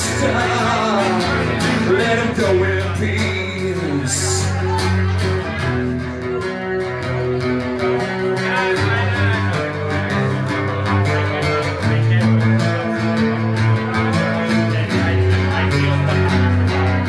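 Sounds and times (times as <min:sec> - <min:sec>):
instrumental guitar music: 0:00.0 - 0:17.0.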